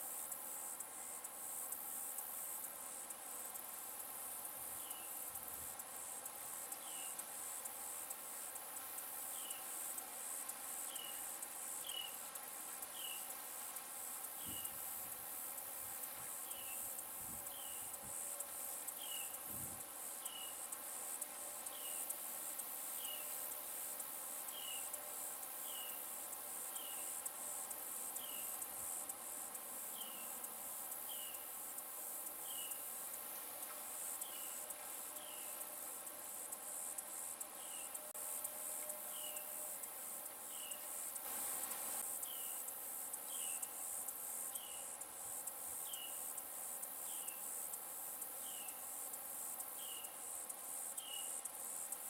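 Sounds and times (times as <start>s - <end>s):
insects buzzing: 0.0s - 52.0s.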